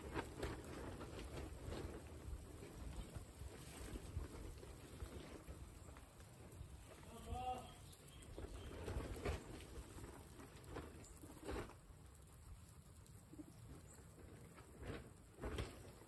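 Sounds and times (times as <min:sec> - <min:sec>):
guinea pigs rustling in straw: 0:00.0 - 0:16.0.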